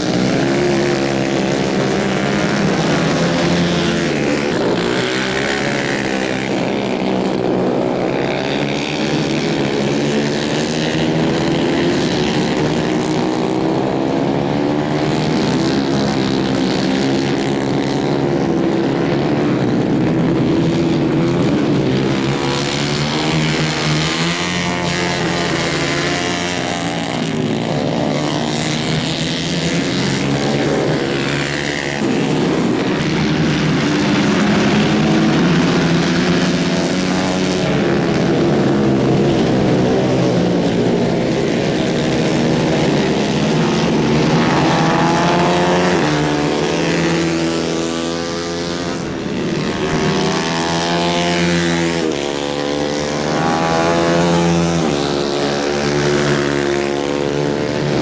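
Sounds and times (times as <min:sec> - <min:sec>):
racing kart engines: 0:00.0 - 0:58.0.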